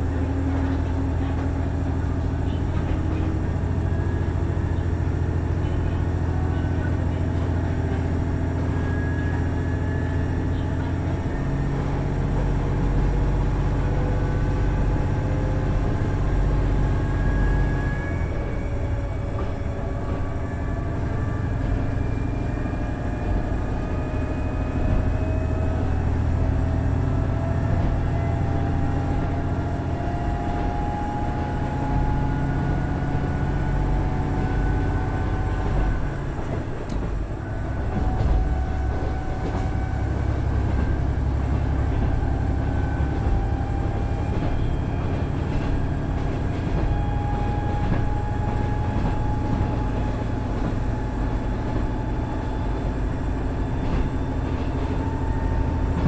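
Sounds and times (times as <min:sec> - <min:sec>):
diesel railcar engine running: 0:00.0 - 0:56.0.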